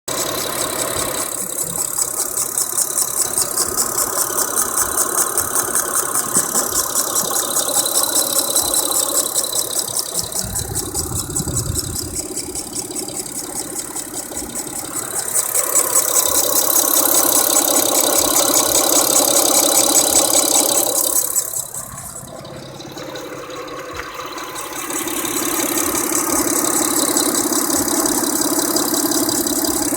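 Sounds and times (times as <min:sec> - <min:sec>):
car engine running: 0:00.0 - 0:29.9
fast ticking rattle: 0:00.1 - 0:29.9.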